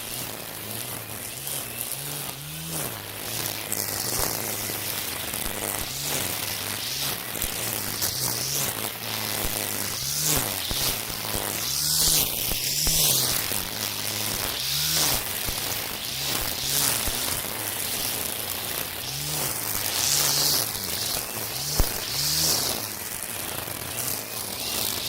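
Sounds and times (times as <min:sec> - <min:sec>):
string trimmer motor hum: 0:00.0 - 0:25.0
hiss of whipping cord: 0:03.3 - 0:23.4.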